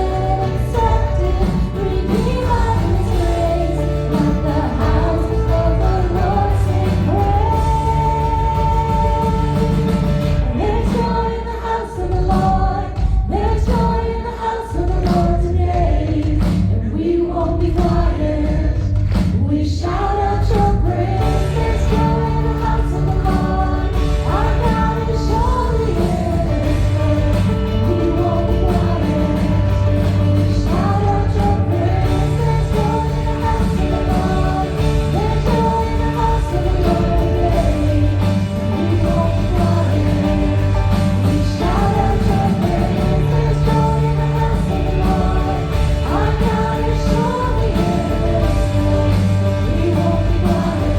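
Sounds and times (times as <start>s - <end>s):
full band with steady beat: 0.0s - 50.9s
voices singing: 0.0s - 50.9s.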